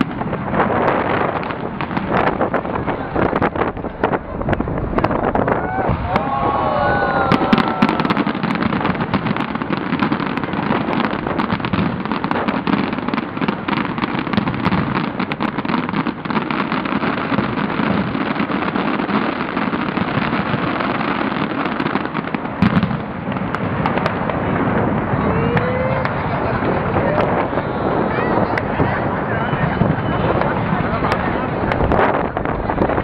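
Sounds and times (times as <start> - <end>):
firework bang: 0.0 - 33.0
fireworks crackling and popping: 0.0 - 33.0.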